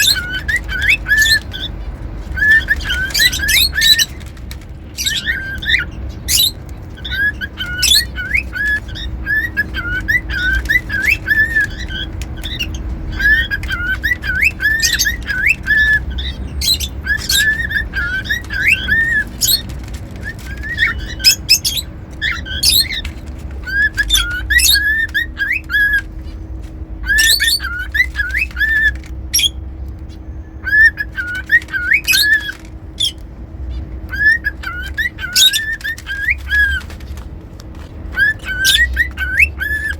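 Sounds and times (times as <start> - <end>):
cockatiel whistling: 0.0 - 4.3, 5.0 - 26.4, 27.0 - 33.2, 34.1 - 37.0, 38.1 - 39.9.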